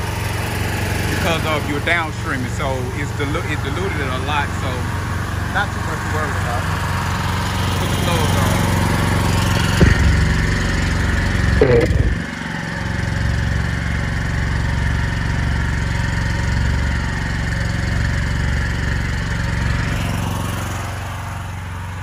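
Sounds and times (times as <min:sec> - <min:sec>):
gasoline engine running: 0:00.0 - 0:22.0.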